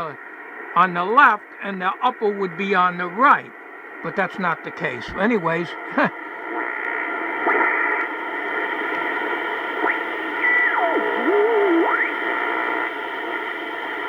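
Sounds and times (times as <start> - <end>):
radio receiver hiss: 0.0 - 14.0.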